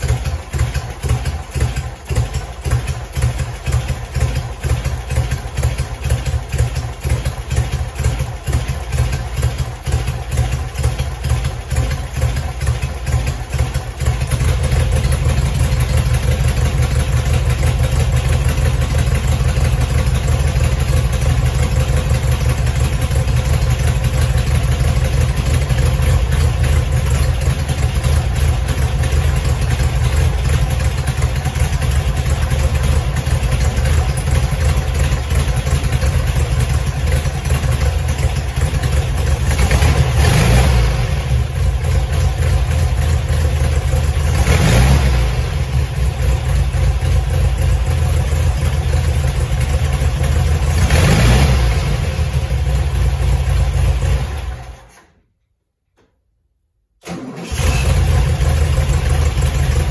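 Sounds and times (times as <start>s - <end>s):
car engine idling: 0.0s - 55.0s, 57.5s - 59.9s.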